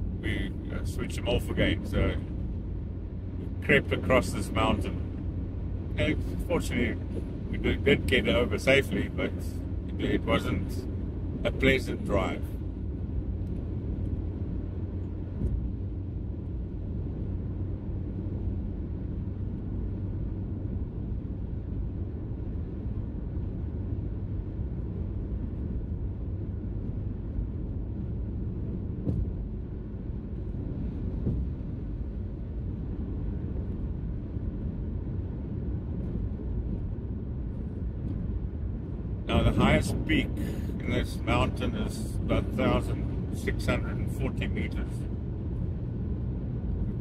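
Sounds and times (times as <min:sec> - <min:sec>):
car cabin road rumble: 0:00.0 - 0:47.0.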